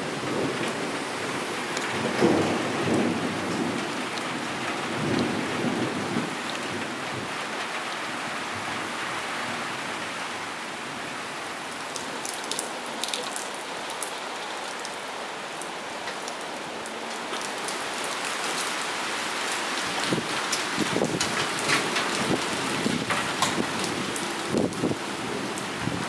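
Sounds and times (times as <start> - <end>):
rain on concrete and grass: 0.0 - 26.0.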